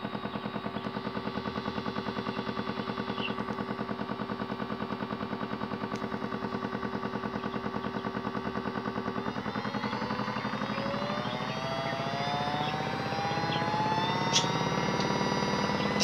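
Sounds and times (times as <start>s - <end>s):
motor whine: 0.0s - 16.0s.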